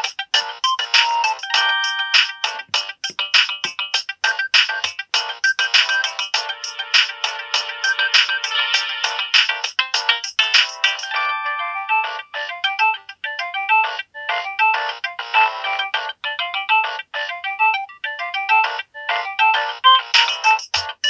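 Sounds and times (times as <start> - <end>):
polyphonic phone ringtone: 0.0 - 21.0.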